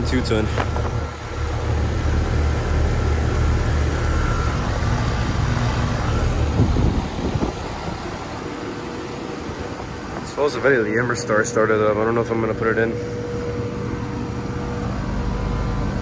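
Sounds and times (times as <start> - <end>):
compressor hum: 0.0 - 16.0
condenser fan rushing: 0.0 - 16.0.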